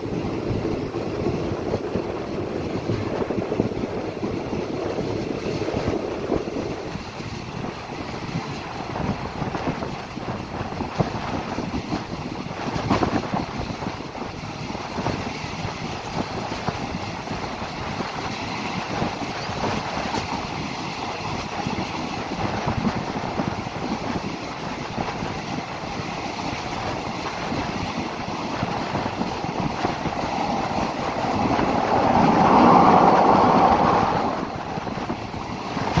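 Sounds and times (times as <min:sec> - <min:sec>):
train wheels rumbling and rattling: 0:00.0 - 0:36.0
wind rushing: 0:00.0 - 0:36.0.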